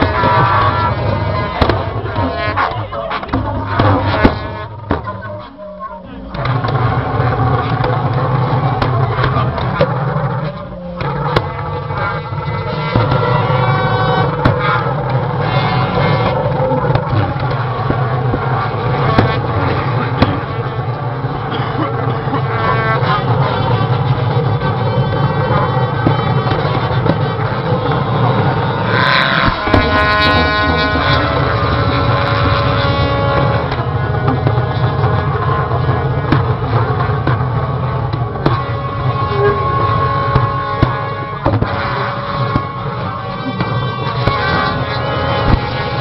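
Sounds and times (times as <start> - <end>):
horn and organ tones: 0.0 - 46.0.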